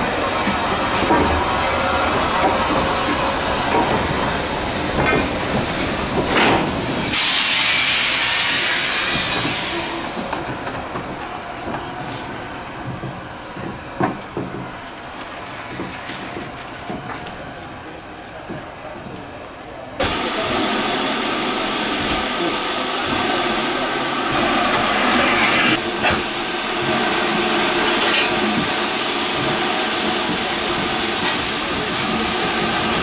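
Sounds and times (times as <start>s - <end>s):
steam locomotive hissing: 0.0s - 17.0s, 19.4s - 33.0s.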